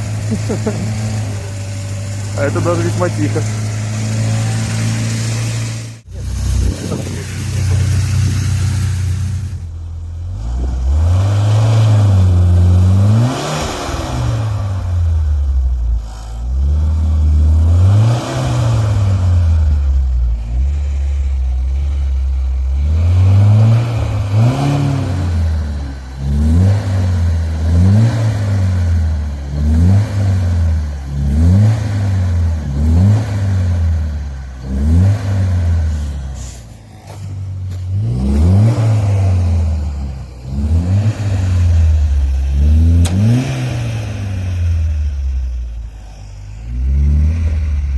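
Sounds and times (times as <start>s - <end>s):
suv engine idling and revving: 0.0s - 47.9s.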